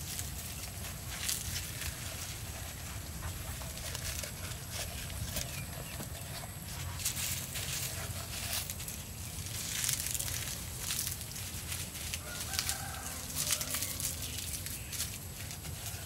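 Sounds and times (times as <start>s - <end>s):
hands rustling raw chicken: 0.0s - 16.0s.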